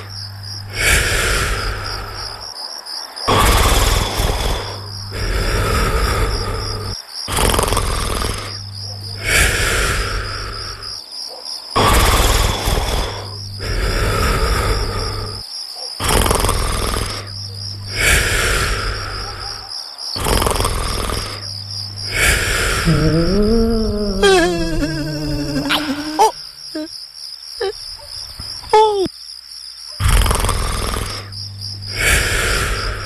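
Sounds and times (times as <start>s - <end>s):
person snoring: 0.0s - 2.5s, 3.3s - 11.0s, 11.8s - 15.4s, 16.0s - 19.6s, 20.2s - 26.9s, 30.0s - 33.0s
crickets chirping: 0.0s - 33.0s.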